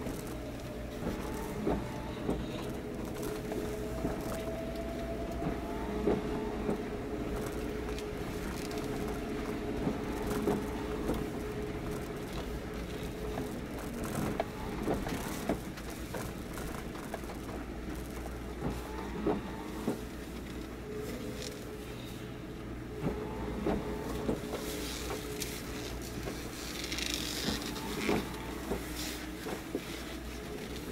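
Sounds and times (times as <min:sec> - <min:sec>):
boat machinery drone: 0:00.0 - 0:30.9.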